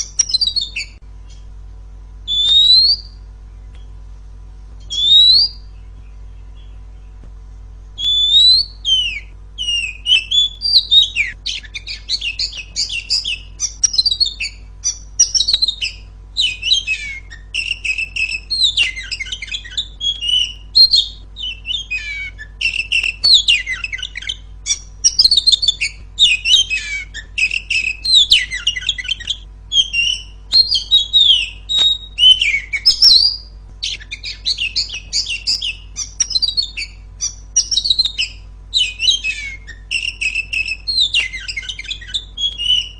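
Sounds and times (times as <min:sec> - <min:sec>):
bird singing whistles and trills: 0:00.0 - 0:01.6, 0:02.2 - 0:04.0, 0:04.8 - 0:07.3, 0:08.0 - 0:42.9
faint low hum: 0:00.0 - 0:42.9.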